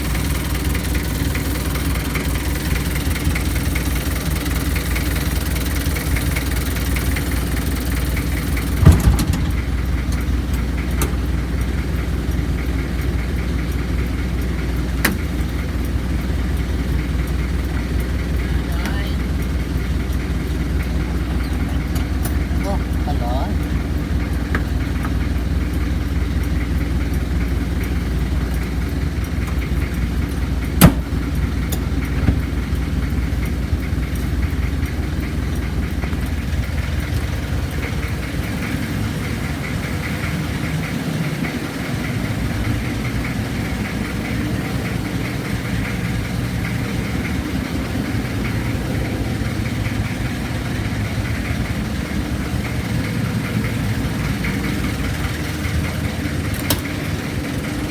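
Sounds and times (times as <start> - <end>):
diesel truck engine clattering: 0.0 - 57.9.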